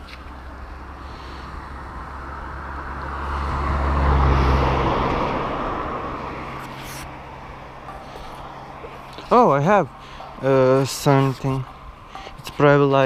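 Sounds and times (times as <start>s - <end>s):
motor vehicle passing: 0.0s - 12.8s.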